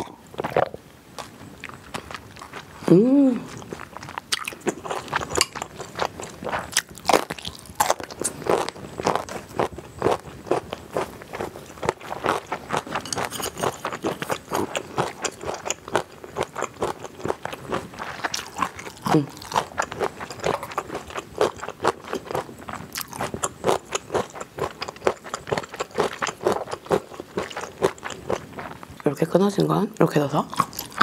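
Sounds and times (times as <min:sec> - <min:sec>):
crunchy chewing: 0:00.0 - 0:29.0, 0:30.5 - 0:31.0.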